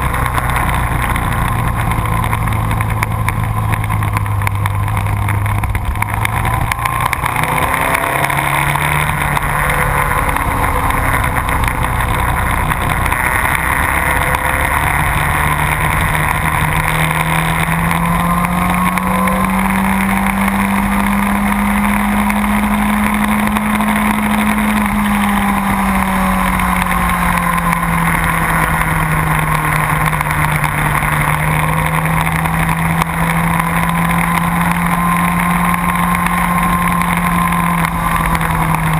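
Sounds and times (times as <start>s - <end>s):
motorcycle engine at speed: 0.0s - 38.9s.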